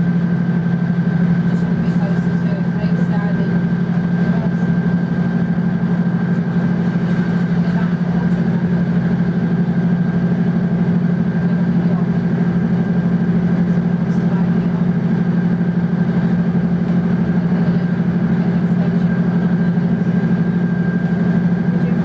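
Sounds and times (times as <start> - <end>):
train engine droning: 0.0 - 22.0.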